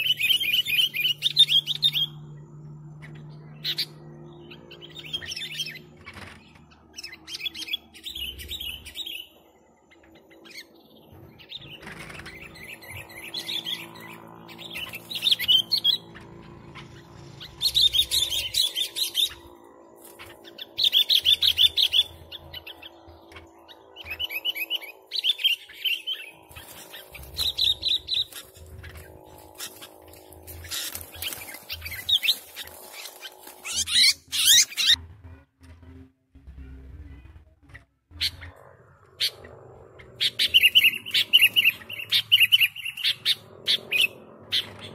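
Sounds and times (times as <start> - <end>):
bird singing rapid chirps: 0.0 - 35.0, 37.7 - 44.9.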